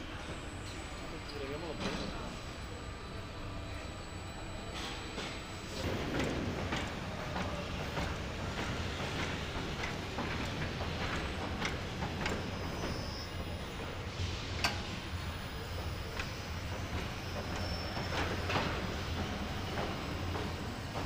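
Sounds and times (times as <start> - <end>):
machinery hum: 0.0 - 21.0
machinery clicks and clanks: 0.1 - 21.0.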